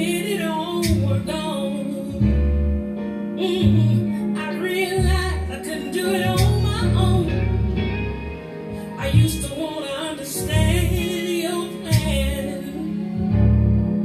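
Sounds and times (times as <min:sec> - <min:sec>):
deep bass notes: 0:00.0 - 0:09.7, 0:10.4 - 0:14.0
song with singing voice: 0:00.0 - 0:14.0.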